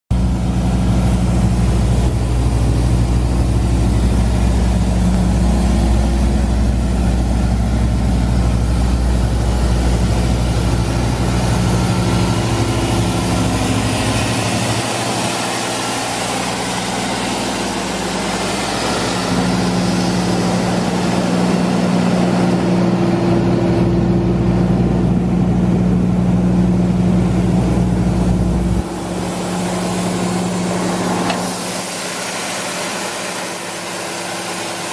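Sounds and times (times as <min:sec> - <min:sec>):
air compressor diesel engine droning: 0:00.1 - 0:34.9.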